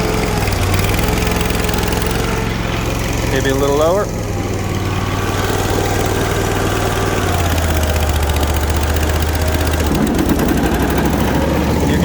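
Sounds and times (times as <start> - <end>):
mower blades engaged: 0.0 - 12.0
mower engine running: 0.0 - 12.0.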